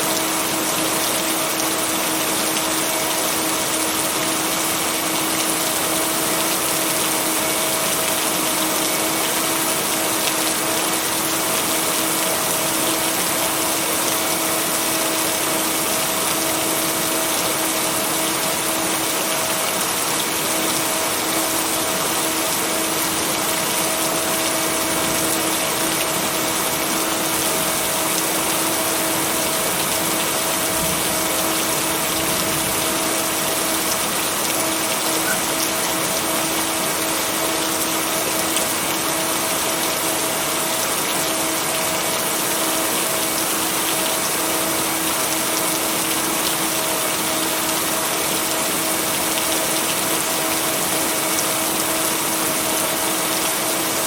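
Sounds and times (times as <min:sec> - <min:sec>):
heavy rain hiss: 0:00.0 - 0:54.0.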